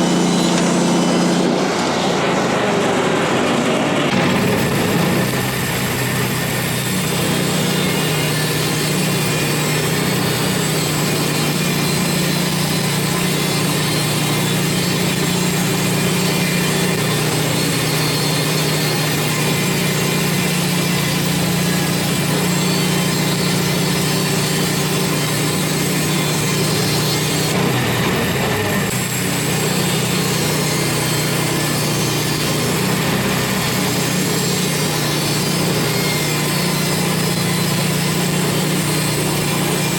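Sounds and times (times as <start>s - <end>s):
saw blade cutting log: 0.0s - 39.9s
sawmill engine running: 0.0s - 39.9s.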